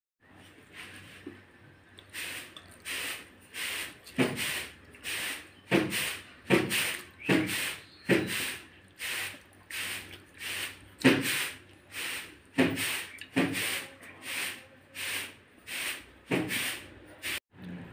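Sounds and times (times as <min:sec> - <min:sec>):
hand squelching wet rice: 0:01.9 - 0:17.4.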